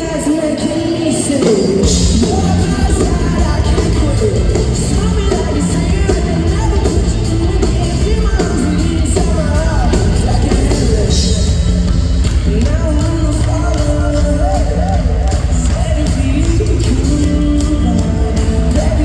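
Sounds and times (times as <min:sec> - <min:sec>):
heavy bass: 0:00.0 - 0:19.0
lead vocalist singing: 0:00.0 - 0:19.0
steady drum beat: 0:00.9 - 0:19.0.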